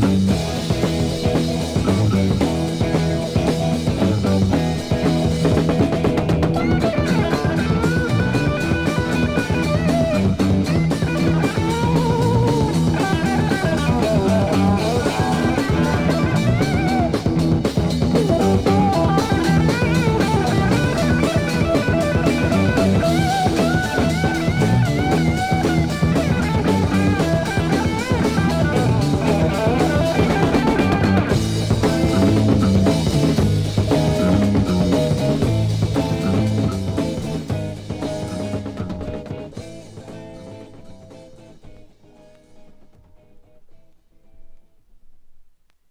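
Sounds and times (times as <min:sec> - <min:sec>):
steady drum kit: 0:00.0 - 0:43.6
winding electric guitar lines: 0:00.0 - 0:44.6.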